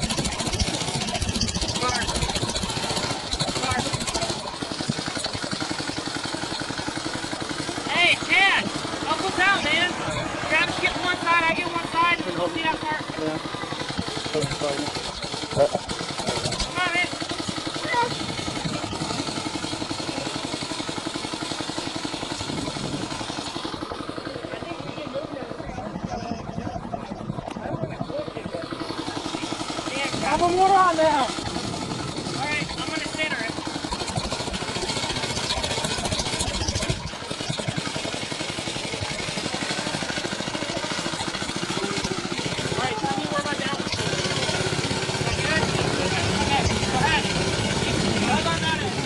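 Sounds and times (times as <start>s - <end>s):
blower whirring: 0.0s - 49.0s
engine running steadily: 0.0s - 49.0s.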